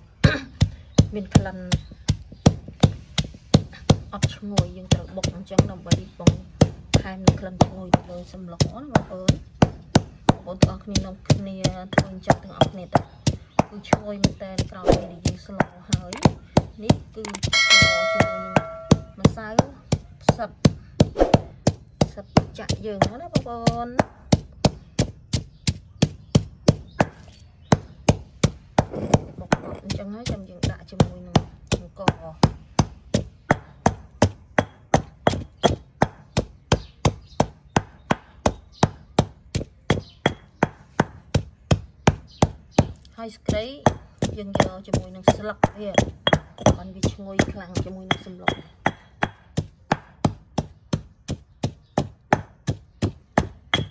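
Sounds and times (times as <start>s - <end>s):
stone pestle pounding in mortar: 0.1s - 53.9s.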